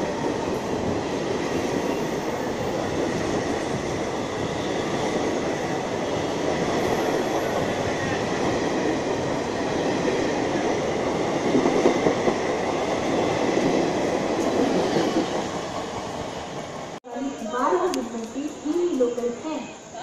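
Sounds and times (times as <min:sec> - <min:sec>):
train wheels rumbling and rattling: 0:00.0 - 0:19.7.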